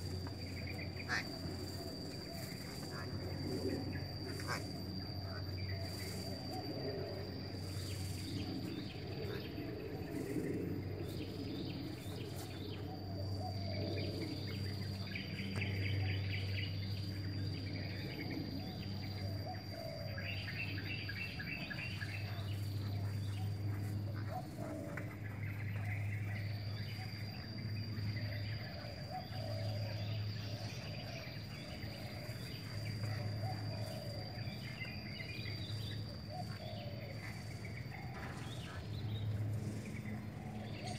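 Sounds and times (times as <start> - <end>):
birds chirping: 0.0 - 40.9
high-pitched insect drone: 0.0 - 40.9
low steady hum: 0.0 - 40.9.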